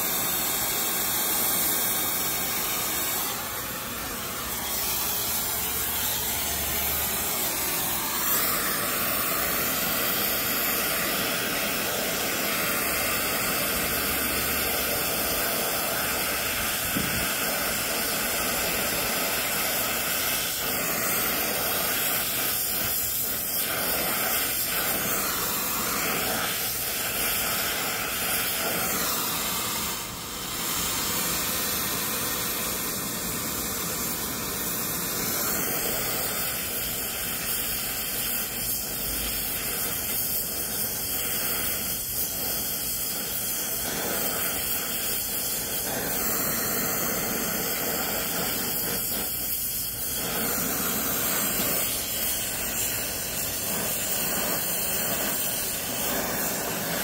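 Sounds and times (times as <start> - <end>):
brazing torch flame hissing: 0.0 - 57.0.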